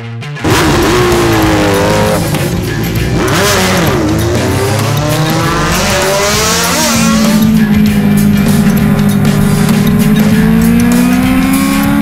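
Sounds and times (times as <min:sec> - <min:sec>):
motorcycle engines revving: 0:00.4 - 0:12.0.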